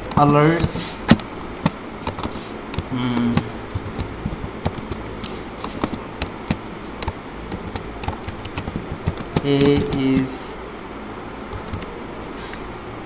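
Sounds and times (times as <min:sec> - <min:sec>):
keyboard key clicks: 0:00.0 - 0:10.3, 0:11.5 - 0:11.9
low background hum: 0:00.0 - 0:13.0.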